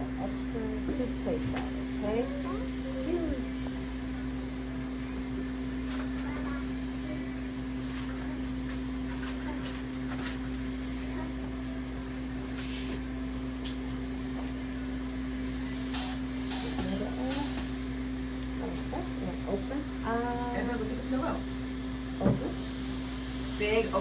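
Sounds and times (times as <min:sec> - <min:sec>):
constant hum: 0:00.0 - 0:24.0
dental suction hissing: 0:00.2 - 0:24.0.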